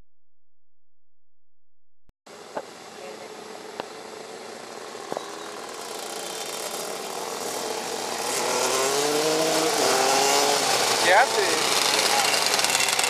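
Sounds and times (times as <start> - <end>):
go-kart engines racing: 2.4 - 13.0.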